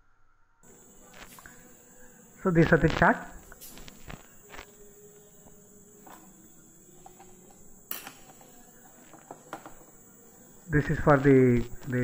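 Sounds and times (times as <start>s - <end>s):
faint high-pitched hiss: 0.6s - 12.0s.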